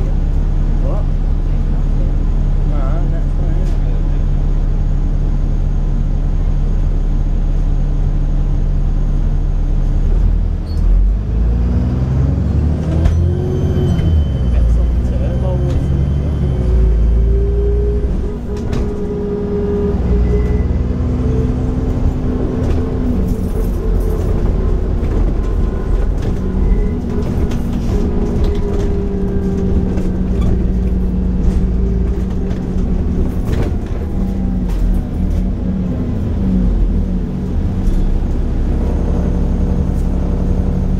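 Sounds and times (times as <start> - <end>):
bus engine drone: 0.0 - 40.9.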